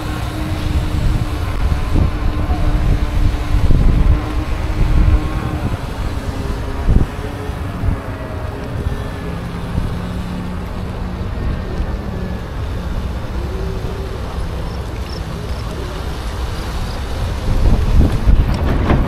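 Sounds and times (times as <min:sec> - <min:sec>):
faint steady whine: 0:00.0 - 0:19.0
road rumble: 0:00.0 - 0:19.0
wind rushing over microphone: 0:00.0 - 0:19.0.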